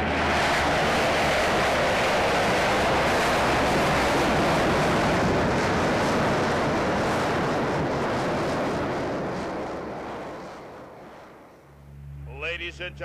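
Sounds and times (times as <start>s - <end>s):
aircraft rockets and engines roaring: 0.0s - 13.0s.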